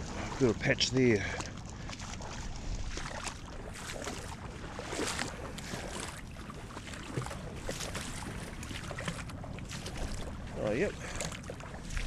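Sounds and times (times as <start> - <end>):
legs wading through water: 0.0 - 12.0.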